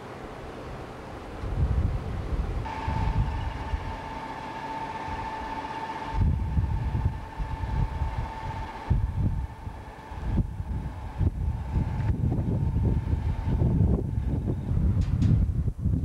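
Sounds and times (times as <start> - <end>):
diesel locomotive high whine: 0.0 - 16.0
wind buffeting microphone: 0.0 - 16.0.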